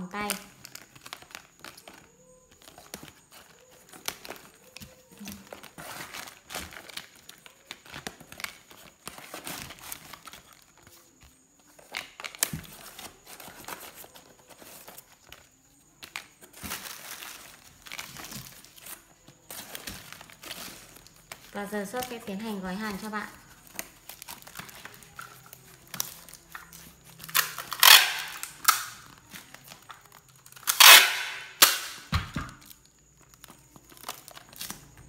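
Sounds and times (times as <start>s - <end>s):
plastic packaging crinkling: 0.0s - 35.0s.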